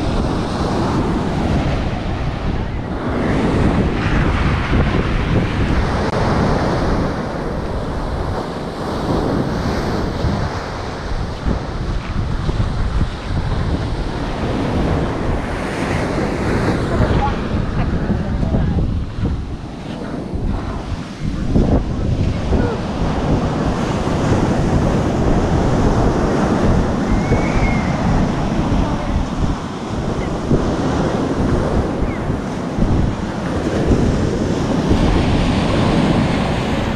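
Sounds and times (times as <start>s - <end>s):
ocean surf breaking: 0.0s - 36.9s
wind buffeting microphone: 0.0s - 36.9s.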